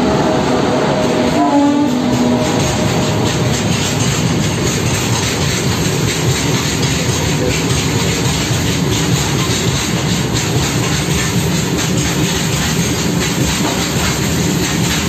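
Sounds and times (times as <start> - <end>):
freight train wheels rumbling: 0.0 - 15.0
wheels clicking over rail joints: 1.9 - 15.0.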